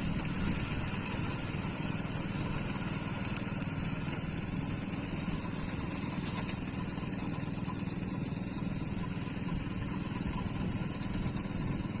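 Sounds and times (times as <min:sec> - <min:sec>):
harvester engine chugging: 0:00.0 - 0:12.0.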